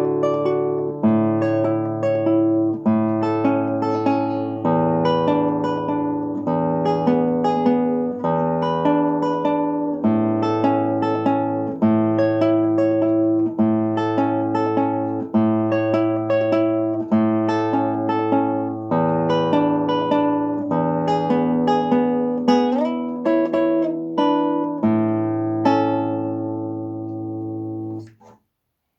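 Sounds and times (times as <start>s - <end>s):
fingerpicked acoustic guitar: 0.0s - 28.4s.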